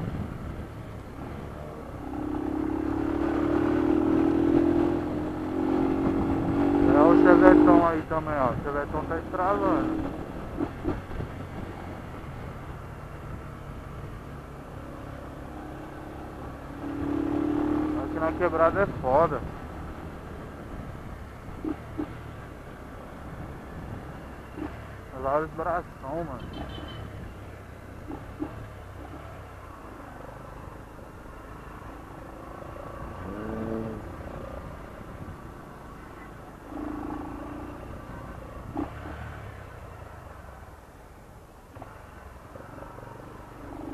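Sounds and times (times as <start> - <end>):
road and wind noise: 0.0 - 43.9.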